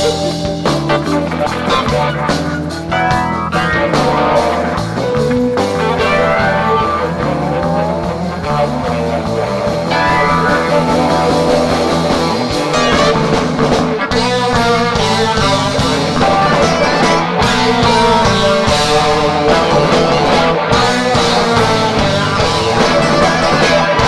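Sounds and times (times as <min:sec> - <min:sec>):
electric guitar: 0:00.0 - 0:24.0
live rock band playing: 0:00.0 - 0:24.0.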